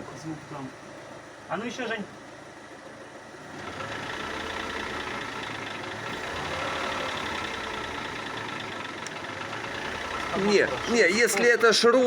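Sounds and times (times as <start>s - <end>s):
car engine running: 0.0s - 12.0s
rattle under engine: 2.3s - 12.0s.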